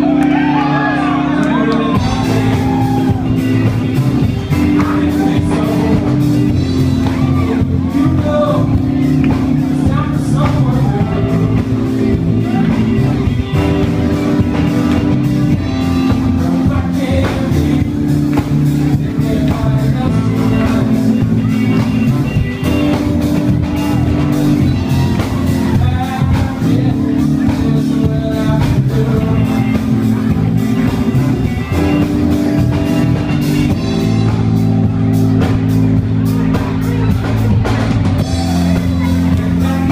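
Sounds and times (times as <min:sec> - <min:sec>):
drum kit: 0:00.0 - 0:39.9
live band playing loud music: 0:00.0 - 0:39.9
person singing: 0:00.0 - 0:39.9.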